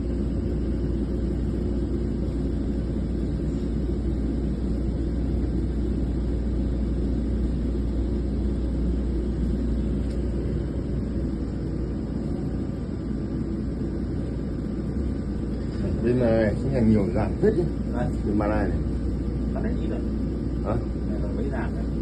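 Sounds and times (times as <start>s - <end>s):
low machinery rumble: 0.0s - 22.0s.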